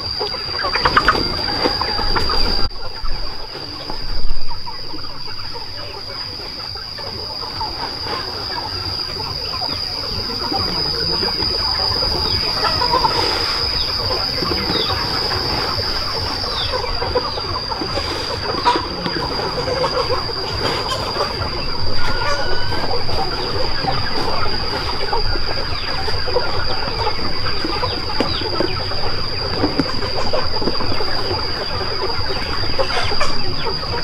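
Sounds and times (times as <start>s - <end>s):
chickens clucking: 0.0s - 34.0s
high-pitched drone: 0.0s - 34.0s.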